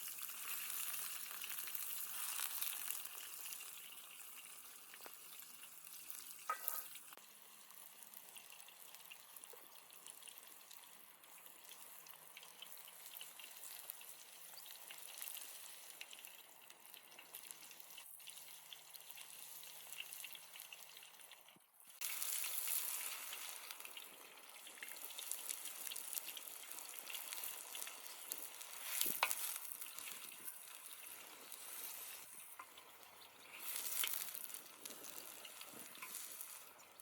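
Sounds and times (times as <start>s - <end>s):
food sizzling and crackling: 0.0s - 37.0s.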